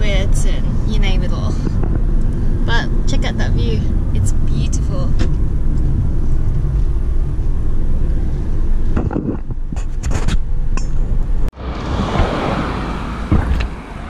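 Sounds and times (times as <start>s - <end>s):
car engine and tyres rumbling: 0.0s - 14.0s
wind noise: 0.0s - 14.0s.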